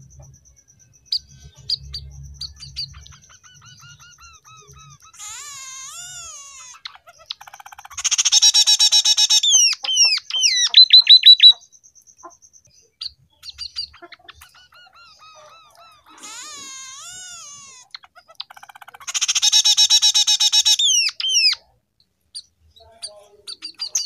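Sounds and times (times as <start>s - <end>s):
buzzy bird trill: 0.0s - 21.7s
bird warbling song: 0.0s - 24.0s.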